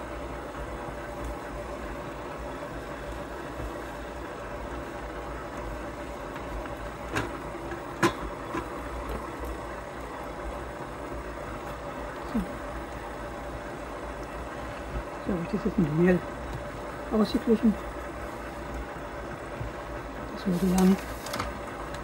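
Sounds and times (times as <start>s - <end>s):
stand mixer kneading dough: 0.0s - 22.0s.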